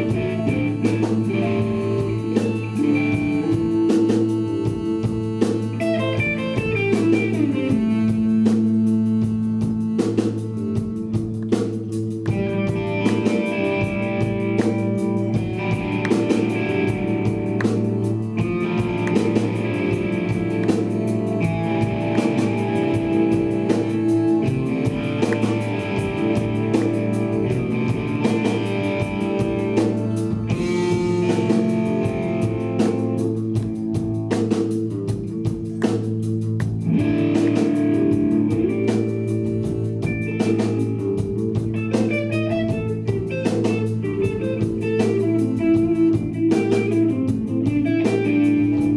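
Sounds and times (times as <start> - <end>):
blues-rock band playing: 0.0 - 48.9
saxophone: 0.0 - 48.9.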